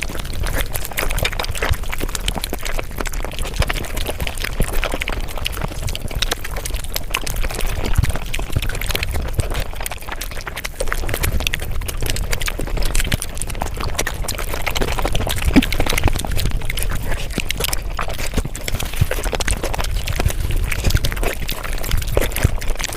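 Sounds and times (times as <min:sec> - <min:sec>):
sped-up chewing and slurping: 0:00.0 - 0:22.9.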